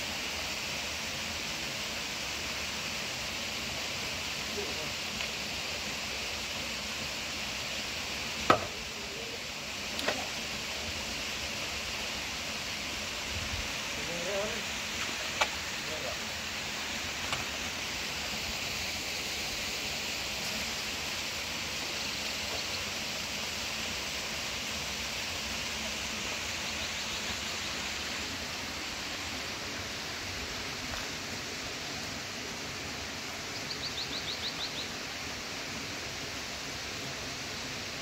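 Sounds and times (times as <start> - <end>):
rushing outdoor background noise: 0.0 - 38.0.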